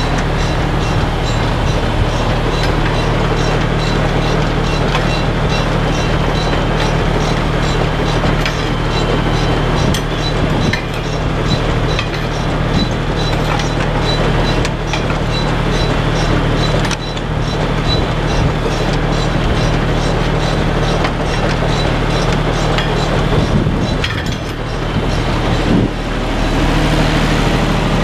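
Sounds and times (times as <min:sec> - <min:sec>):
mechanical clatter: 0:00.0 - 0:28.0
tractor engine under load: 0:00.0 - 0:28.0.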